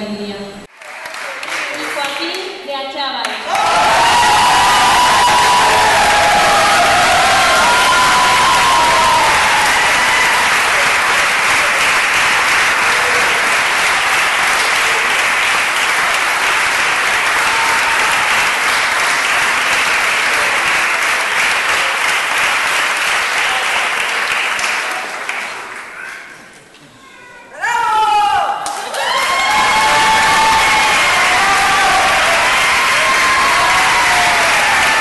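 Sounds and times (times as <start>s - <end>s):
audience applauding: 0.7s - 2.6s, 3.3s - 26.4s, 28.6s - 35.0s.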